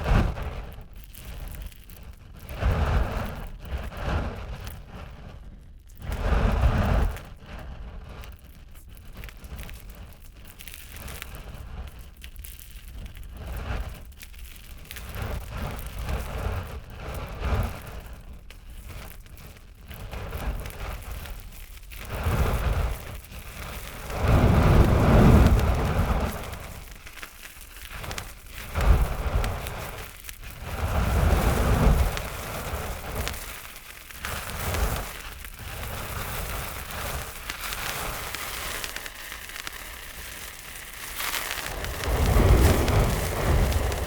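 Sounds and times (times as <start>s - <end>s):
fire crackling: 0.0s - 44.0s
rushes of flame: 0.0s - 44.0s.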